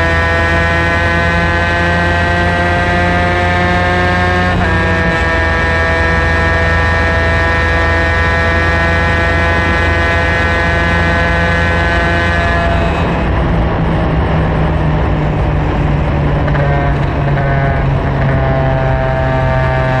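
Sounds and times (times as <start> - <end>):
racing kart engine at high pitch: 0.0 - 20.0.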